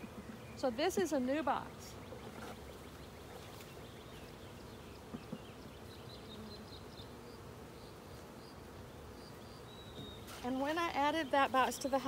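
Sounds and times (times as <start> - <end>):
honey bees humming: 0.0 - 12.0.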